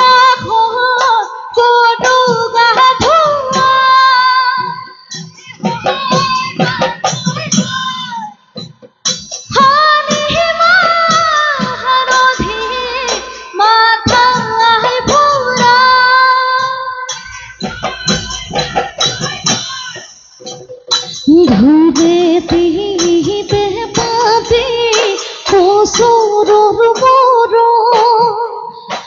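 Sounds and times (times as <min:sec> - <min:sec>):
women singing together: 0:00.0 - 0:08.5, 0:09.6 - 0:20.2, 0:21.3 - 0:29.0
percussion beat: 0:00.0 - 0:29.0.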